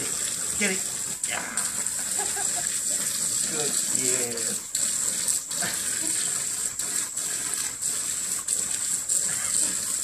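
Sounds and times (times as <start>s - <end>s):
hose water gushing and splashing: 0.0s - 10.0s.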